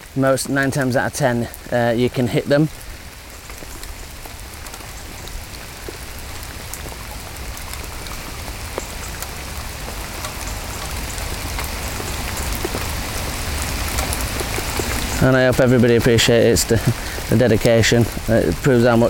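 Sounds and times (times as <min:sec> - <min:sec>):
heavy rain hiss: 0:00.0 - 0:19.0
rain rattling on plastic bag: 0:00.0 - 0:19.0.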